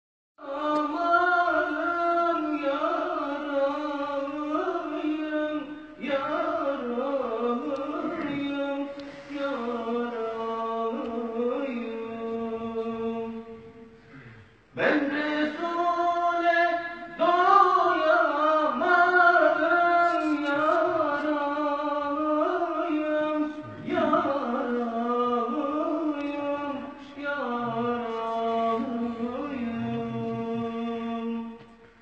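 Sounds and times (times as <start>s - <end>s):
man singing hymn unaccompanied: 0.4s - 13.8s, 14.7s - 31.8s.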